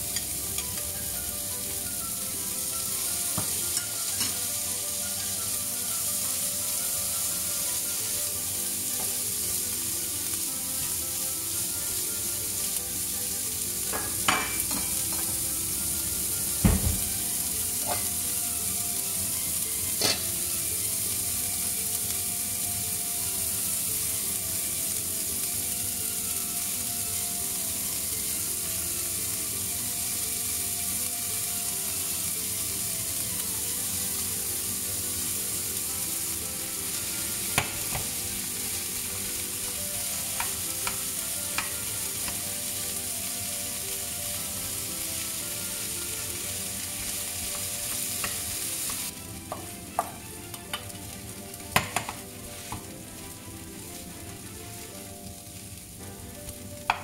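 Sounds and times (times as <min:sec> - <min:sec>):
food sizzling in frying pan: 0:00.0 - 0:57.0.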